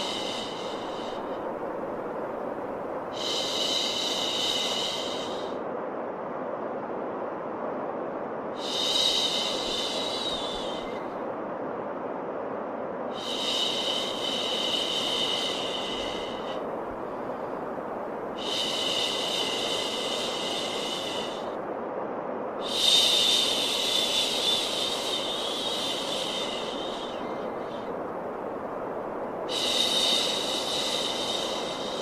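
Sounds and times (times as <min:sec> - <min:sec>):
low white noise: 0:00.0 - 0:32.0.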